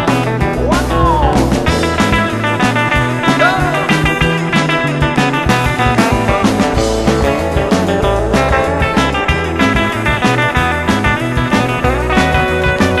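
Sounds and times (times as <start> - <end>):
drums: 0.0 - 13.0
electric guitar lead with bent notes: 0.0 - 13.0
rockabilly band music: 0.0 - 13.0
stepping bass line: 0.0 - 13.0.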